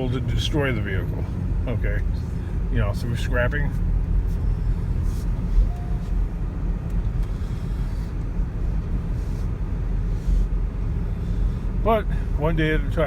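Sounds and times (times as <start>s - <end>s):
road and engine rumble in cabin: 0.0s - 13.0s.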